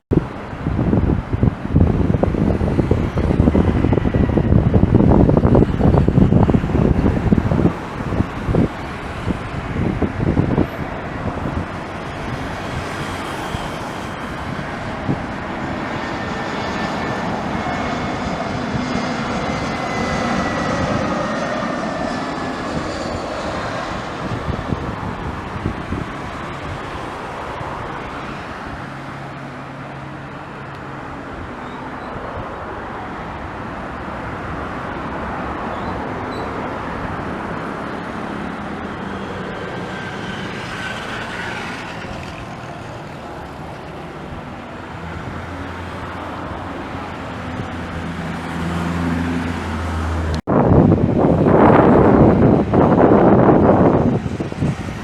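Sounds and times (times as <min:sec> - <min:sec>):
jet airliner engines whining: 0:00.1 - 0:55.0
wind buffeting microphone: 0:00.1 - 0:55.0.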